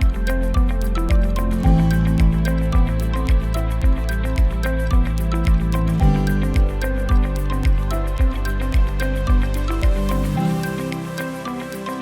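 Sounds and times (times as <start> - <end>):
low thumping beat: 0.0 - 11.0.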